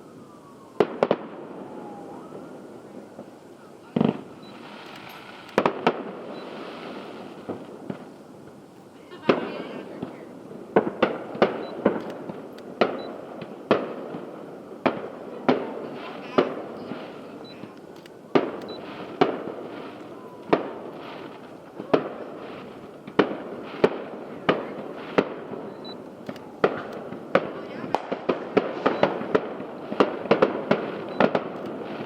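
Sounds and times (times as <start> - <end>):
distant fireworks booming: 0.0 - 32.0.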